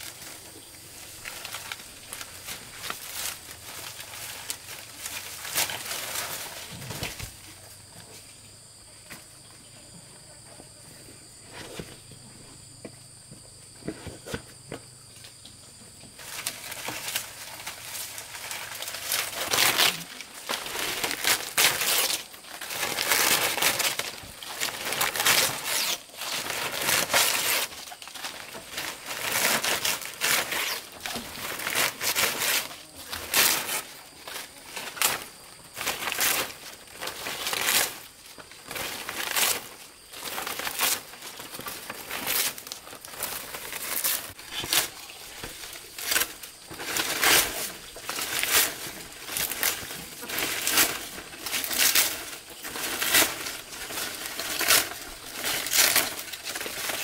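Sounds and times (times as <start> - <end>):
palm fronds rustling: 0.0 - 8.7, 16.1 - 57.0.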